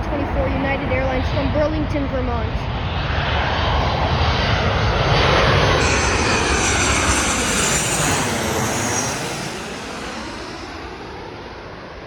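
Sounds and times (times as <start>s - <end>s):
jet airliner flying past: 0.0s - 12.0s
jet fan whine: 0.0s - 12.0s.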